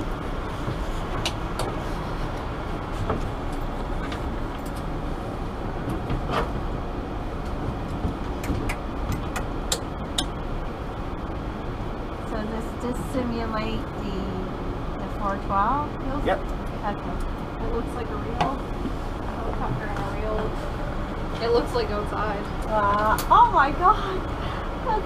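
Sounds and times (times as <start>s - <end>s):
cockpit rumble and hiss: 0.0s - 25.0s.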